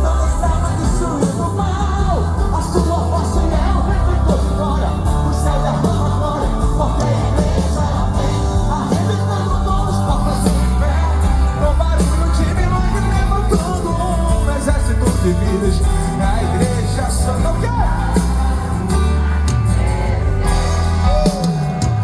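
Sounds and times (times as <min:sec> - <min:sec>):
live rock band playing: 0:00.0 - 0:22.0
people singing and shouting: 0:00.0 - 0:22.0.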